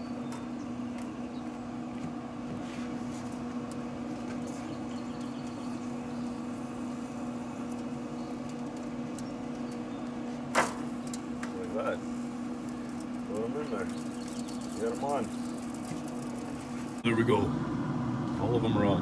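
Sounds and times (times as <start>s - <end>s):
grill fan humming: 0.0s - 19.0s.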